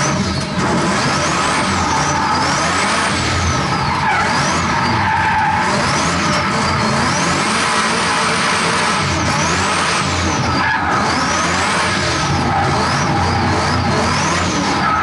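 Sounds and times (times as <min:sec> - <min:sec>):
car engine revving: 0:00.0 - 0:15.0
tyre and road noise: 0:00.0 - 0:15.0.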